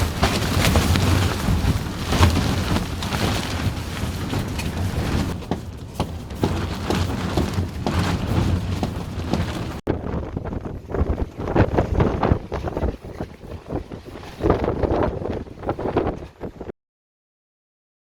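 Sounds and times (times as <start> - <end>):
deep wind rumble on microphone: 0.0 - 16.7
tent fabric flapping: 0.0 - 16.7.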